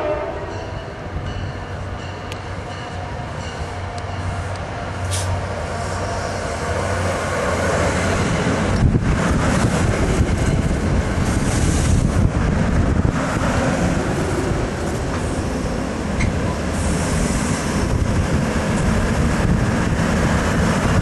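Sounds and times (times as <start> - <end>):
passenger train rolling past: 0.0 - 21.0.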